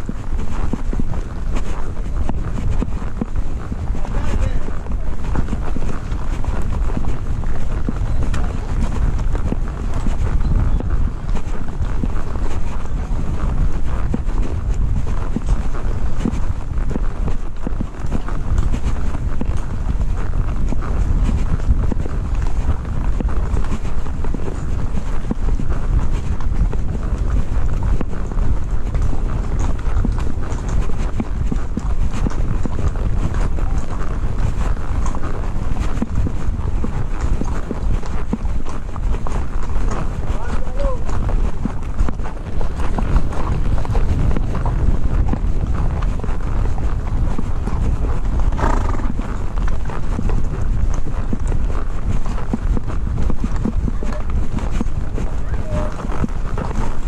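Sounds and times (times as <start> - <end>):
horse hooves clip-clopping: 0.0 - 57.0
wind rumble on microphone: 0.0 - 57.0.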